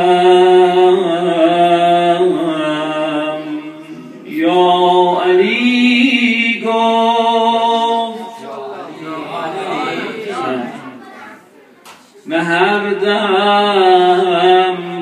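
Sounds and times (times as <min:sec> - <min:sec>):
man chanting: 0:00.0 - 0:10.8, 0:12.2 - 0:15.0.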